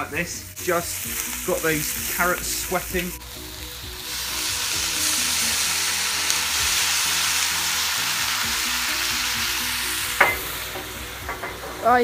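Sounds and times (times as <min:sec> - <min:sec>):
vegetables sizzling in a hot pan: 0:00.0 - 0:12.0.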